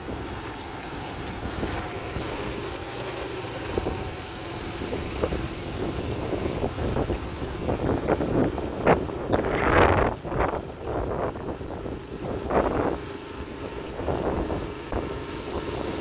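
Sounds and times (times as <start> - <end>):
motorcycle engine riding: 0.0 - 16.0
wind buffeting microphone: 0.0 - 16.0.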